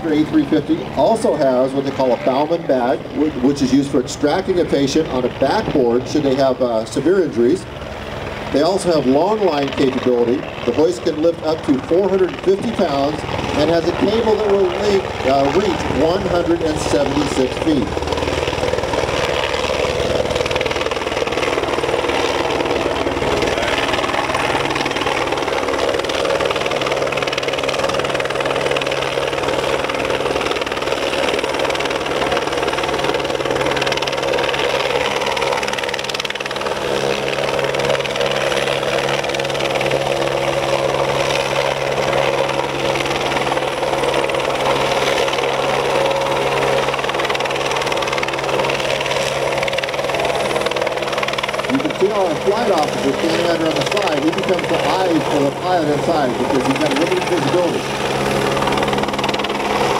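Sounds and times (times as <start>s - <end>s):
helicopter rotor chopping: 0.0s - 59.9s.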